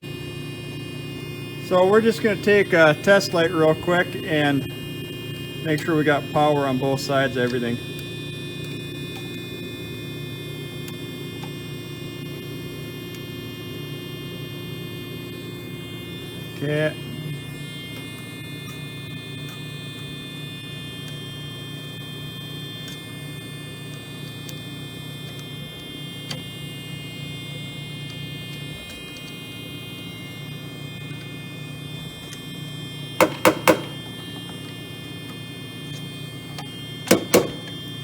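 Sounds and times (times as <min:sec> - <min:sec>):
faint high whine: 0:00.1 - 0:38.0.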